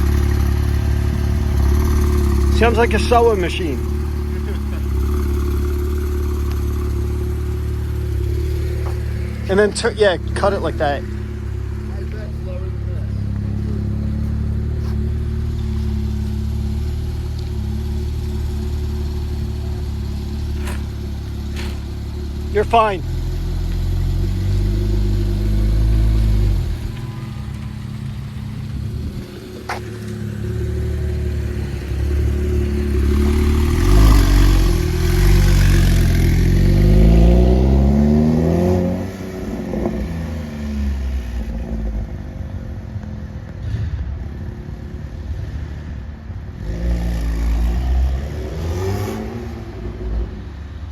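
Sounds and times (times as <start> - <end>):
car engine idling and revving: 0.0 - 50.9.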